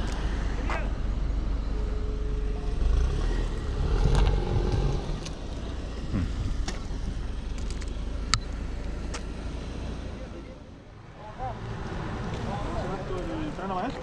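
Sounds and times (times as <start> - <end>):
car driving off: 0.0 - 14.0.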